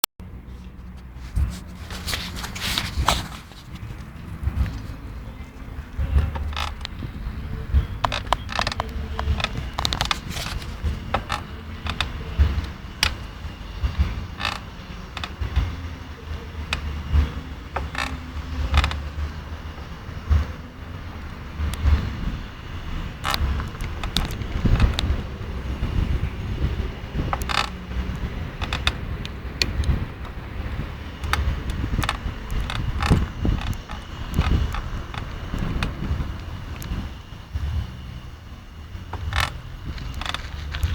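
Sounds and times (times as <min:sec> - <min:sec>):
bike creaking and clicking: 0:00.2 - 0:40.9.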